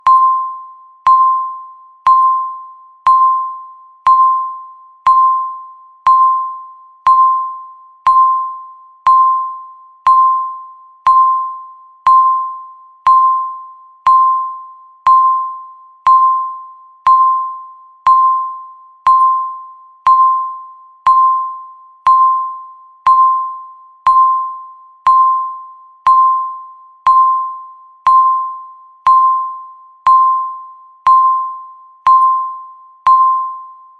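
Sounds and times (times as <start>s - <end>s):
electronic timer beeps: 0.0s - 33.9s.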